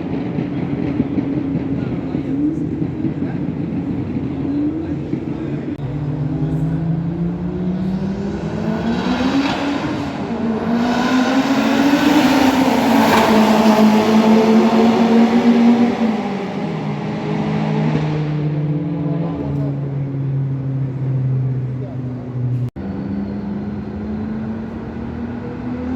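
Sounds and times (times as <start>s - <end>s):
racing car engine at speed: 0.0s - 25.9s.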